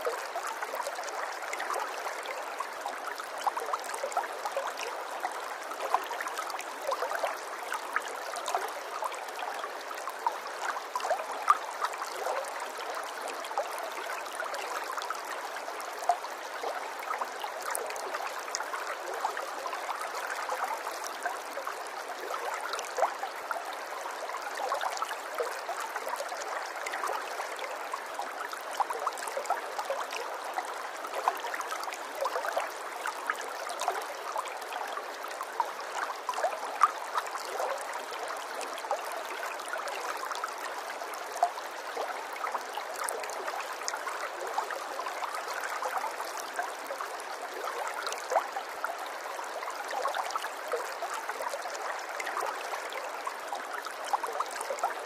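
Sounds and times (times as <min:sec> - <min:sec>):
water trickling and gurgling: 0:00.0 - 0:55.0.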